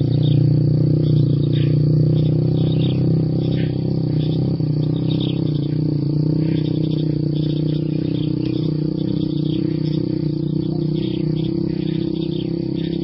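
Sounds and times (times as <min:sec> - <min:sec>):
faint high chirps: 0:00.0 - 0:13.0
low mechanical hum: 0:00.0 - 0:13.0.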